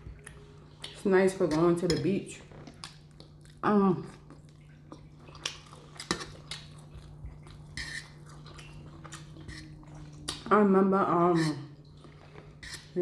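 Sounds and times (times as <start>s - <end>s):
chewing with mouth smacks: 0.0s - 10.5s, 11.8s - 13.0s
steady low hum: 0.0s - 13.0s.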